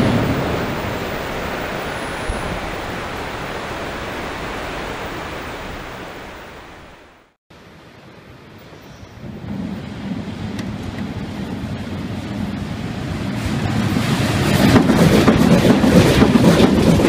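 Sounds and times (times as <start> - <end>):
train rumbling into tunnel: 0.0 - 6.1, 8.2 - 17.0
wind hiss: 0.0 - 17.0.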